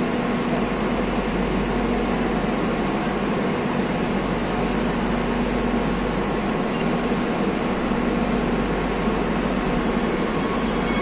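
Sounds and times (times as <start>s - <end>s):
train equipment humming: 0.0s - 11.0s.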